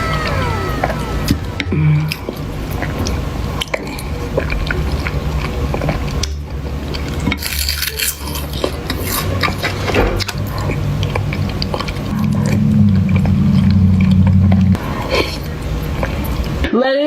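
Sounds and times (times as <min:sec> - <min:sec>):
low steady hum: 0:00.0 - 0:16.7.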